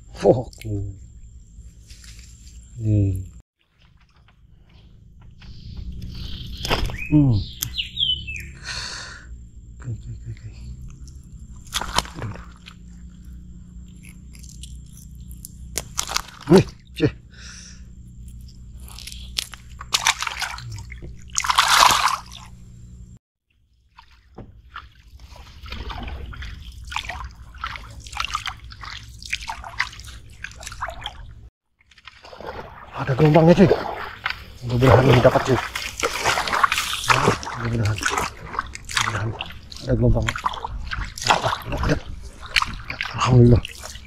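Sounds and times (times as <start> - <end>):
steady low hum: 0.0 - 23.2, 24.5 - 31.5, 32.6 - 44.0
swamp water splashing: 3.6 - 44.0.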